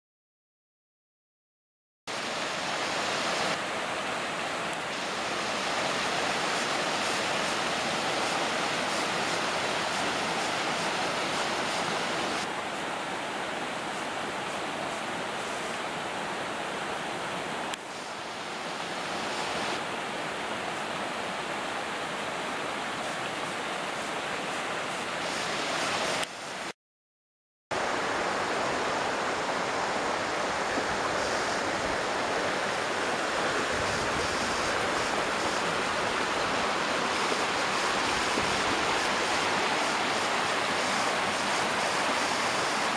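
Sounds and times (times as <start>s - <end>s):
waterfall rushing: 2.1s - 26.6s, 27.8s - 42.9s.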